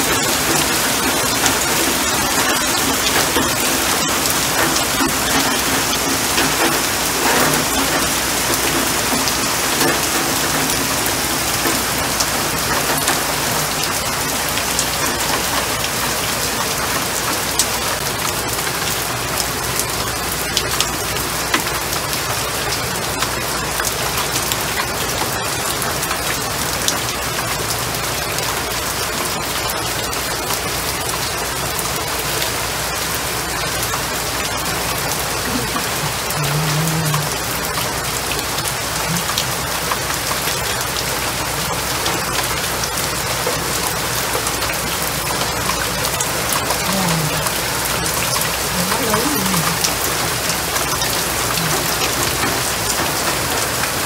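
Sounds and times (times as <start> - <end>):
rain on leaves and water: 0.0 - 54.0.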